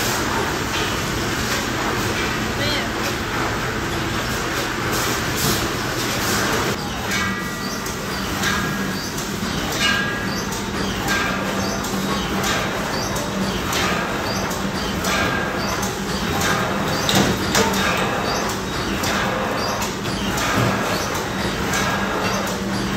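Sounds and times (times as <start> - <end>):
machinery hum: 0.0 - 22.9
mechanical clack: 0.0 - 22.9.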